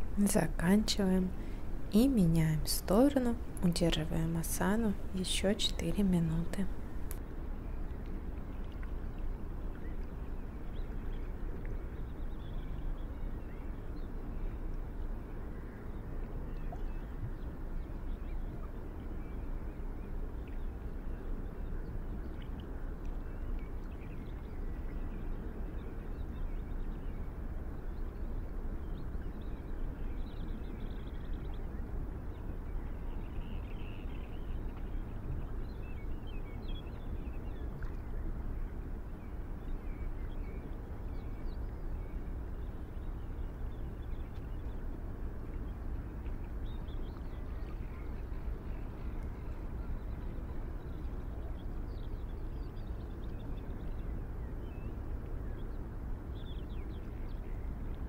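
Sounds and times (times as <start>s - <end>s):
low outdoor background noise: 0.0s - 58.0s.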